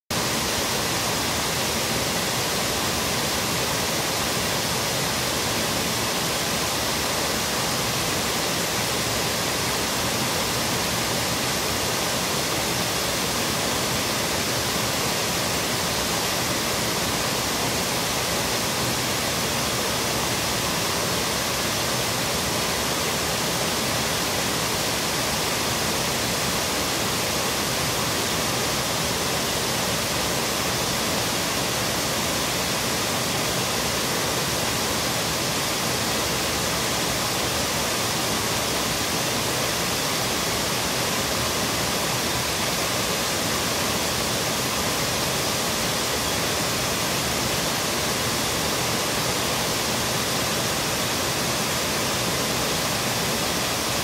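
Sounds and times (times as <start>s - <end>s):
water rushing over a weir: 0.1s - 54.0s.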